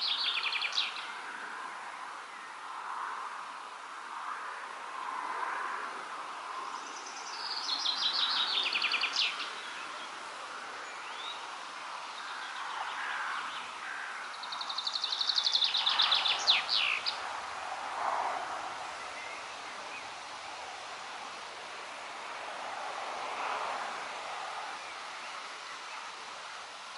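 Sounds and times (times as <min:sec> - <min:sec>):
songbird singing: 0:00.0 - 0:03.4, 0:06.4 - 0:22.5, 0:23.2 - 0:26.9
wind in leaves: 0:00.0 - 0:26.9.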